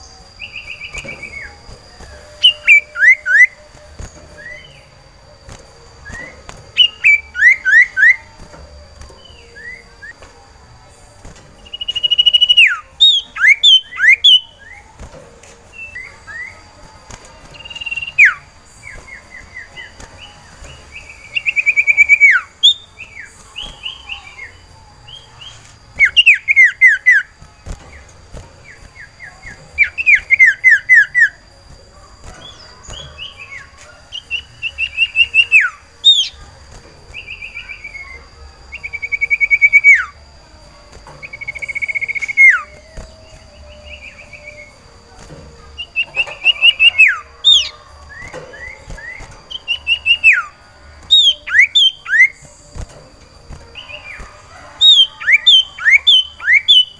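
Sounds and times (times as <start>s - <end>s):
bird singing whistled notes: 0.0s - 40.4s, 41.0s - 56.9s.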